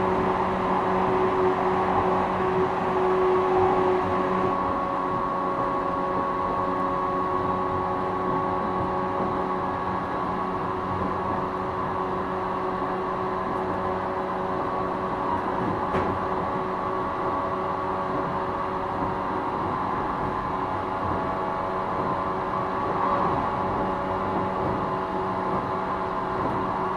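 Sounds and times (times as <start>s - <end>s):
electric train motor whine: 0.0s - 26.9s
wheels rumbling on track: 0.0s - 26.9s.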